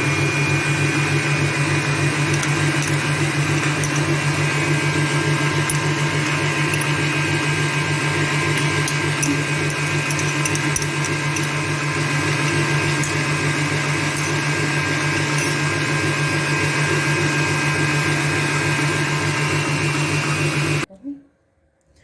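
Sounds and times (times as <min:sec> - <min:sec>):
electric mixer motor whine: 0:00.0 - 0:20.9.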